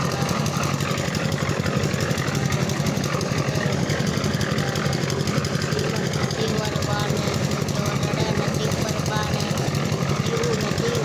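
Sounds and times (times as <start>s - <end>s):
concrete mixer engine running: 0.0s - 11.0s.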